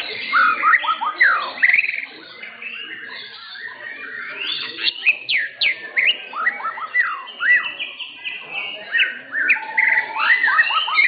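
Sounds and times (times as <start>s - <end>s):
birds singing whistled phrases: 0.0s - 11.0s.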